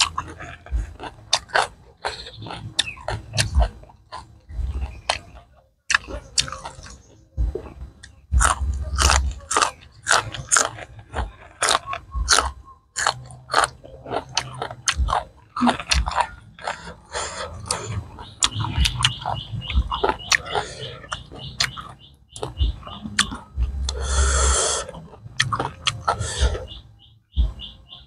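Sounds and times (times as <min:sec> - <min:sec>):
crunching and chewing vegetables: 0:00.0 - 0:28.0.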